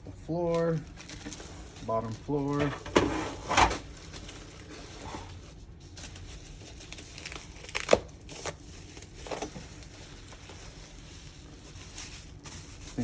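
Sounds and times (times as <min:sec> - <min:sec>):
plastic and cardboard rustling: 0:00.1 - 0:13.0.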